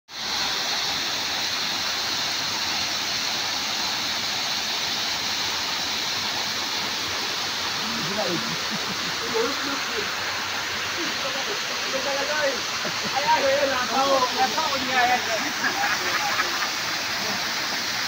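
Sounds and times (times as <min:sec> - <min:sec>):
waterfall rushing: 0:00.1 - 0:18.0.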